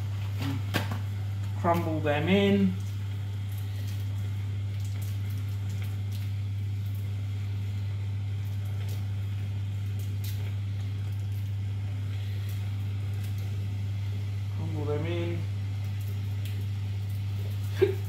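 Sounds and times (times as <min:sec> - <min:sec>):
faint sizzling: 0:00.0 - 0:18.0.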